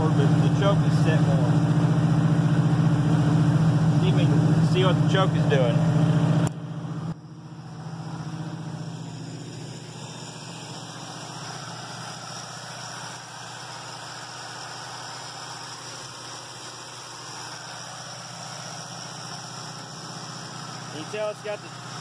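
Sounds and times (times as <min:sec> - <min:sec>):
pickup truck engine idling: 0:00.0 - 0:22.0.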